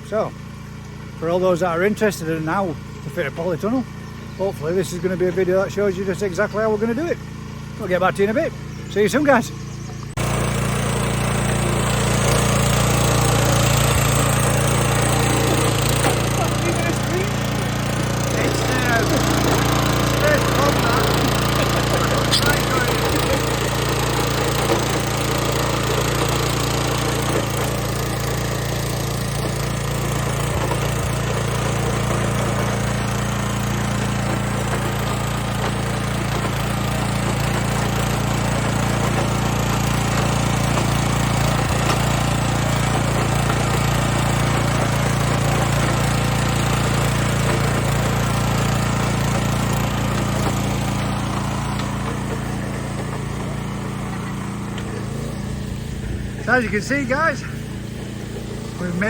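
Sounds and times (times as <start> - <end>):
small engine running under load: 0.0 - 59.0.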